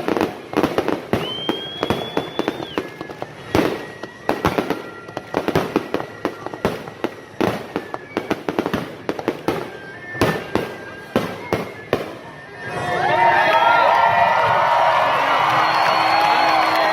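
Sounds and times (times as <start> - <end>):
firework whistling: 0.0 - 16.9
fireworks bangs and crackling: 0.0 - 16.9.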